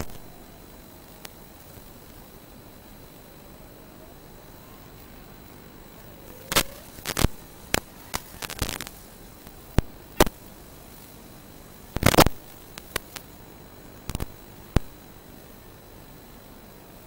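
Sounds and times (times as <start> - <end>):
radio static hiss: 0.0 - 17.0
static crackles: 0.0 - 17.0.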